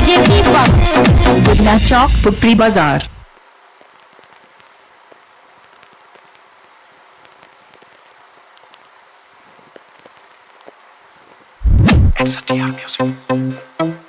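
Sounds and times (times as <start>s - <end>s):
faint steady hiss: 1.6s - 14.0s.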